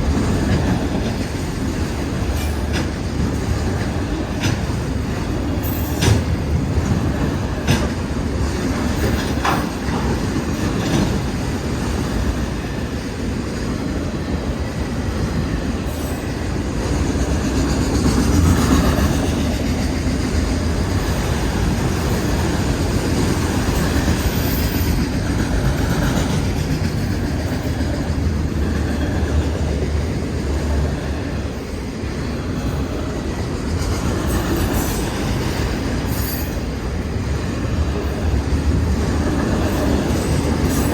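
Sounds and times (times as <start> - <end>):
steel wheels rumbling on rail: 0.0 - 40.9.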